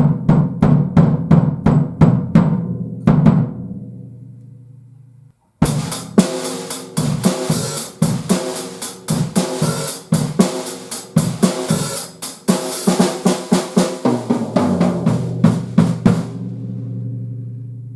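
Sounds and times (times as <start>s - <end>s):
drum kit groove with fills: 0.0s - 3.8s, 5.6s - 17.5s
drums ringing: 0.0s - 17.9s.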